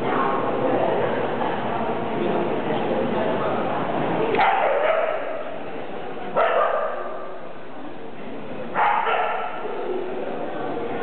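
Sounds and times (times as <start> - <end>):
murmur of people talking: 0.0 - 11.0.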